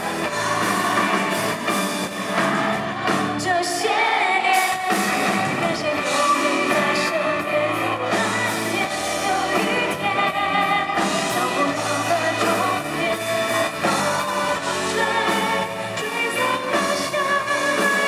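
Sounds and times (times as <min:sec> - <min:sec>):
live rock band with singing: 0:00.0 - 0:18.0.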